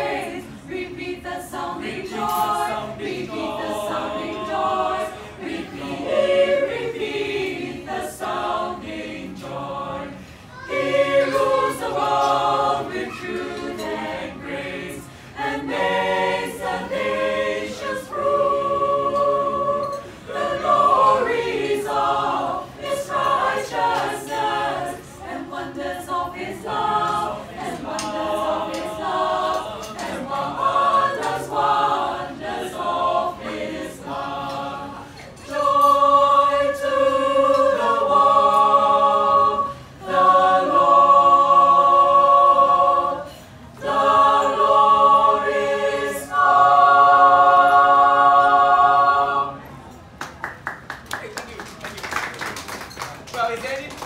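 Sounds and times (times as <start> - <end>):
mixed choir singing a cappella: 0.0 - 50.2.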